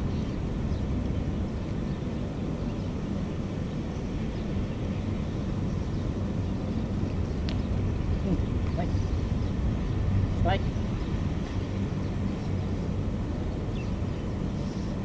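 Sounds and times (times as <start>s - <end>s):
distant engines rumbling: 0.0s - 15.0s
faint hum: 0.0s - 15.0s.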